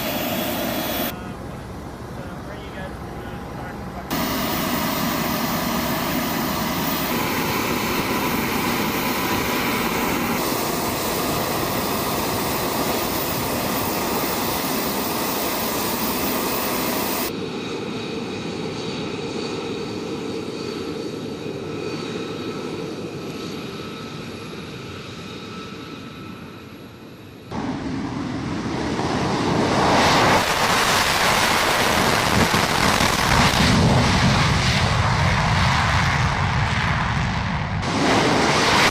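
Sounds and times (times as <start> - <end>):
jet engine roar: 0.0 - 38.9.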